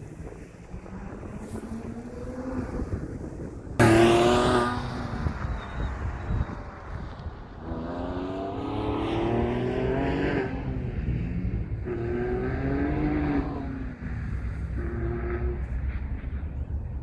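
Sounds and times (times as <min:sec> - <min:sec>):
car engine accelerating hard: 0:00.7 - 0:16.8.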